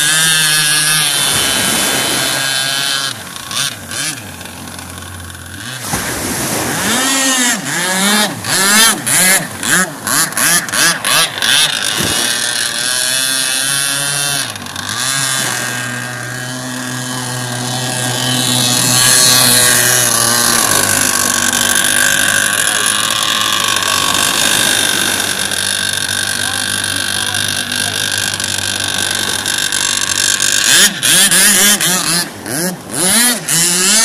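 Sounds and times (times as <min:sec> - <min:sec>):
two-stroke boat engine revving: 0:00.0 - 0:34.0.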